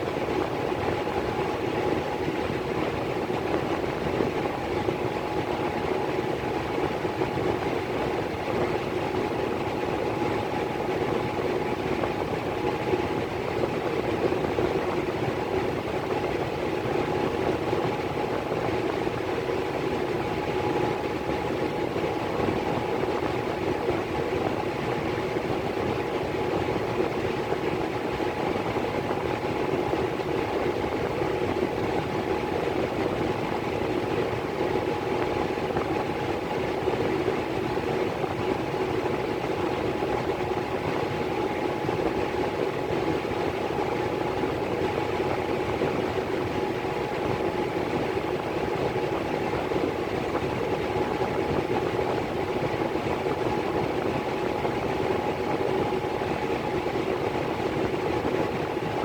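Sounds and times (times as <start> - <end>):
furnace blower airflow hum: 0.0 - 59.0.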